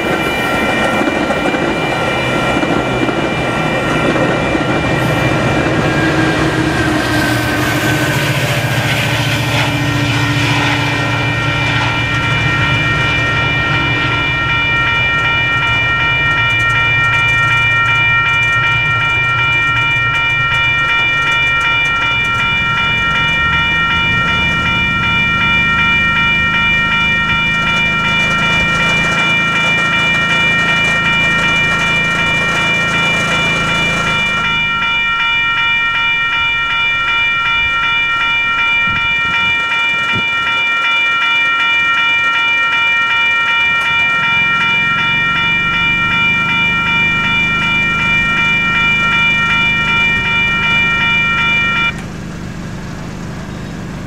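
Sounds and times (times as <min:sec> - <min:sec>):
diesel train rumble: 0:00.0 - 0:41.0, 0:41.6 - 0:54.0
railroad crossing bell ringing: 0:00.0 - 0:54.0.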